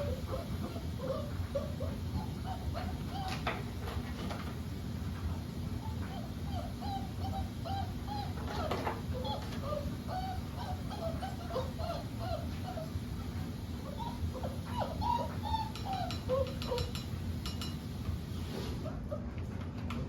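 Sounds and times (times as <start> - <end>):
dogs whining: 0.0 - 4.3, 5.8 - 17.8, 18.8 - 19.5
steady low hum: 0.0 - 20.0.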